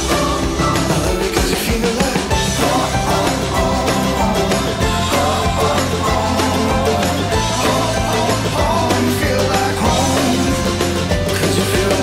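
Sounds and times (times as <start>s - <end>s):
pop-rock music with drums and guitar: 0.0s - 12.0s.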